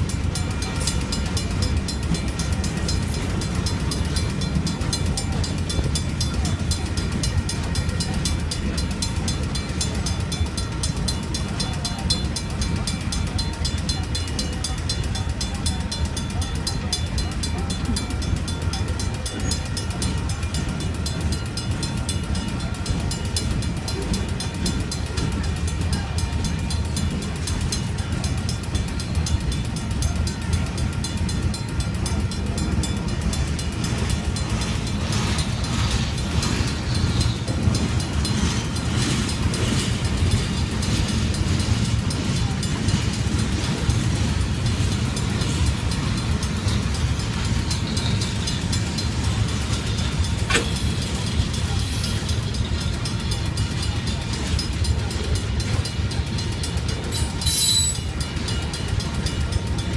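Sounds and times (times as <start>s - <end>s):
crossing bell ringing: 0.0s - 59.9s
train wheels rumbling: 0.0s - 59.9s.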